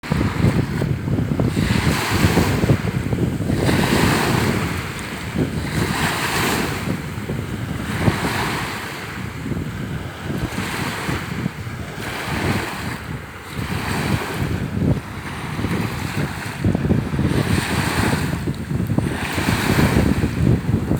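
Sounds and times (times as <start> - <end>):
sea surf washing ashore: 0.0 - 20.9
wind buffeting microphone: 0.0 - 20.9.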